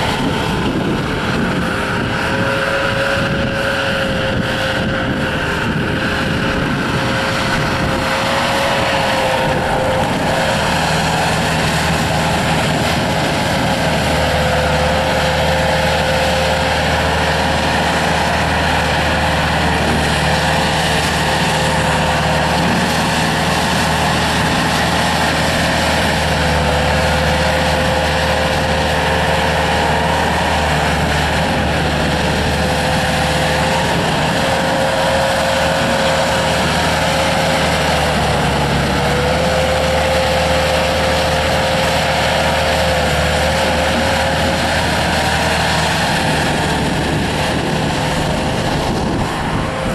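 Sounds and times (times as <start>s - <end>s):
diesel engine running: 0.0s - 49.9s
high whine: 0.0s - 49.9s.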